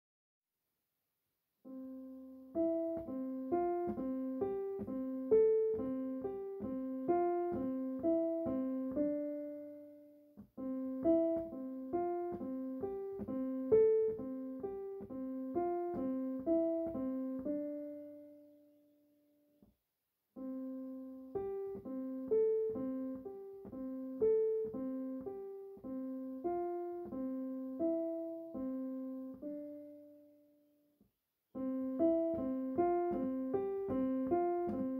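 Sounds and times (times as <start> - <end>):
solo piano music: 1.6 - 19.7, 20.3 - 34.9.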